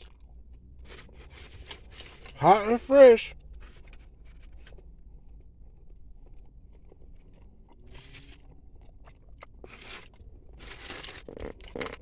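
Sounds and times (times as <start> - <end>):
faint chewing: 0.0 - 2.4, 3.6 - 12.0.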